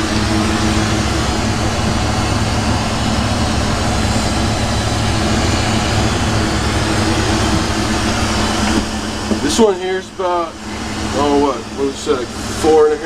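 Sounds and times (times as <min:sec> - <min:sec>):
exhaust fan humming: 0:00.0 - 0:13.0
torch flame roaring: 0:00.0 - 0:13.0.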